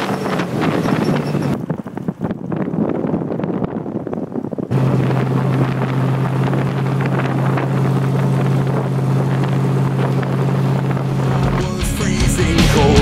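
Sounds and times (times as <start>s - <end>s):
wind rushing over microphone: 0.0s - 12.2s
vehicle engine droning: 0.0s - 13.0s.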